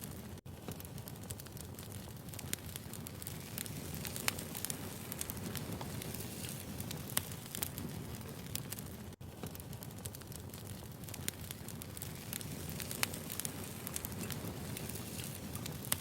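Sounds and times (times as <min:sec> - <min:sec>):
burning logs crackling and popping: 0:00.0 - 0:16.0
flames rumbling: 0:00.0 - 0:16.0.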